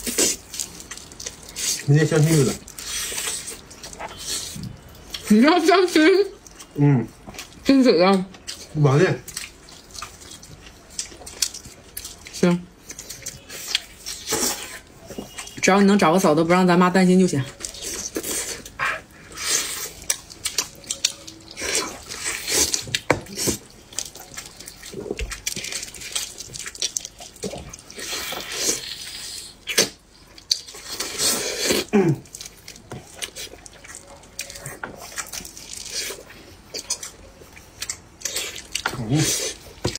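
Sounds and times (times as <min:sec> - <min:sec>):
chewing: 0:00.0 - 0:05.3, 0:06.3 - 0:15.6, 0:17.4 - 0:39.9.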